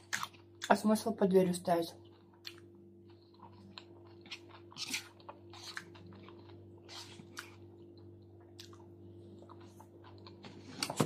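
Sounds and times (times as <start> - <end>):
wet chewing: 0.0 - 0.8, 2.0 - 11.0
steady low hum: 0.0 - 11.0.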